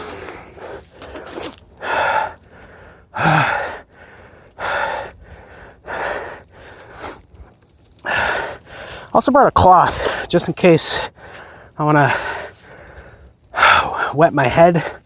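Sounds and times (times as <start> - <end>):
man panting hard: 0.0 - 15.0.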